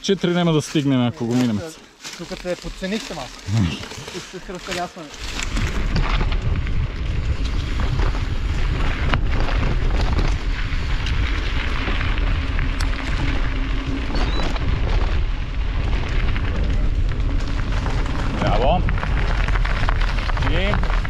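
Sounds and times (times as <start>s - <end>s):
wind and vibration rumble: 2.8s - 21.0s.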